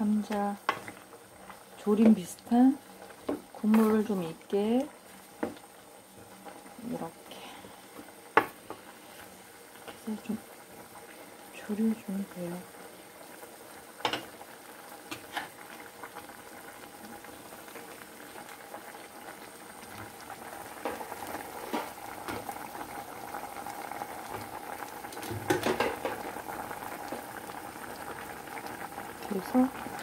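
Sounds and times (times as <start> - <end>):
broth bubbling and sizzling: 0.0 - 30.0.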